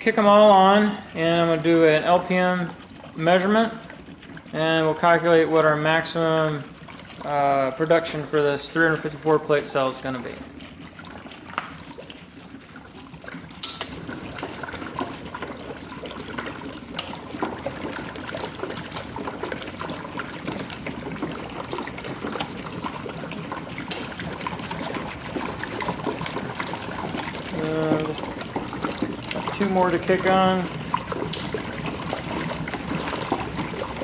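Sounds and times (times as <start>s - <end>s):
gas bubbling through water: 0.1s - 34.0s.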